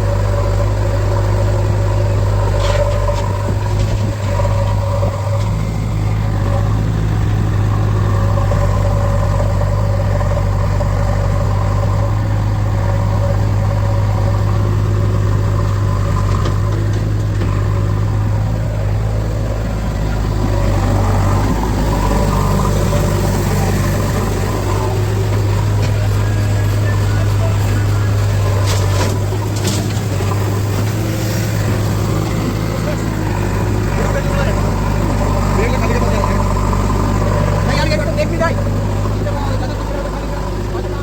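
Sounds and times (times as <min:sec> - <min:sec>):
heavy diesel engine droning: 0:00.0 - 0:41.0.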